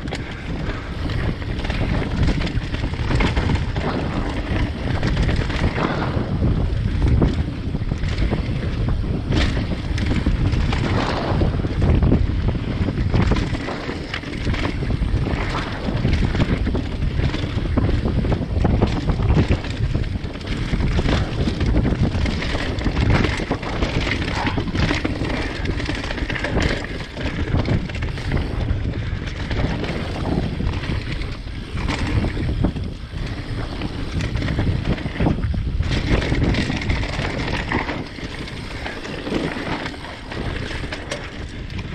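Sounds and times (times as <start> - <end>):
bike knocks and rattles: 0.0 - 41.9
bike tyre noise: 0.0 - 41.9
wind rushing over microphone: 0.0 - 41.9.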